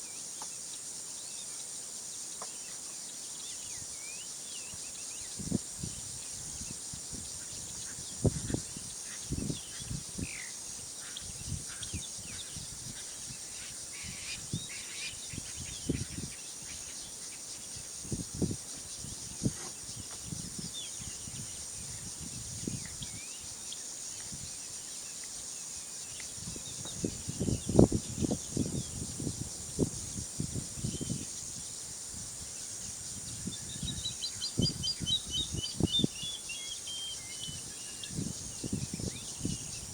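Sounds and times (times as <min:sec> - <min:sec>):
faint bird chirps: 0:00.0 - 0:29.2, 0:32.6 - 0:39.9
insects droning: 0:00.0 - 0:39.9.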